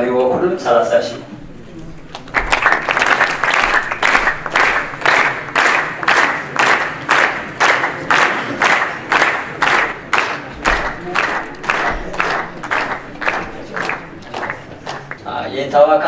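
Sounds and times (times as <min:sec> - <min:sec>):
crowd clapping in rhythm: 0:01.4 - 0:15.5.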